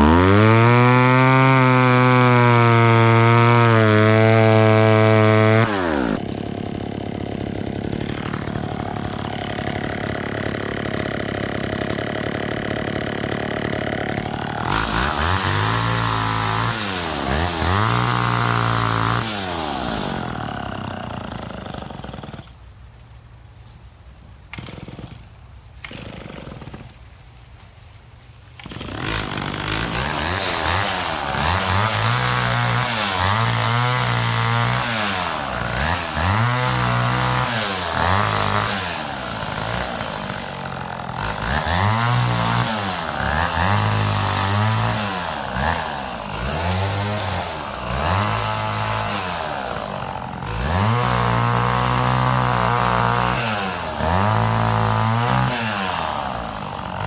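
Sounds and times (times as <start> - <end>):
chainsaw revving: 0.0 - 22.8, 24.5 - 57.0.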